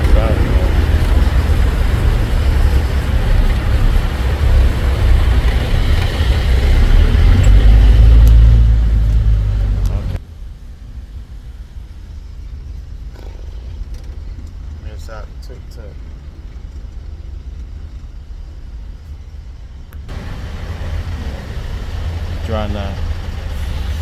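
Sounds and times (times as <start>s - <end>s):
vehicle engine and road noise: 0.0s - 24.0s
wind rumble on microphone: 0.0s - 24.0s.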